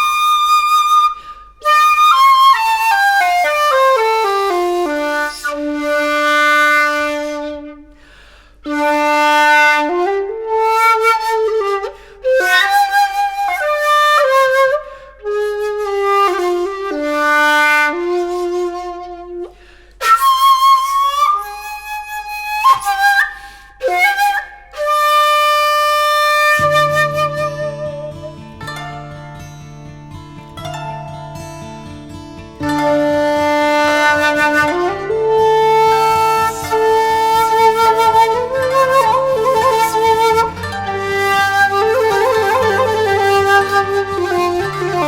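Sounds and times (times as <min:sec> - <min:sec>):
shakuhachi flute solo: 0:00.0 - 0:29.6, 0:30.6 - 0:45.0.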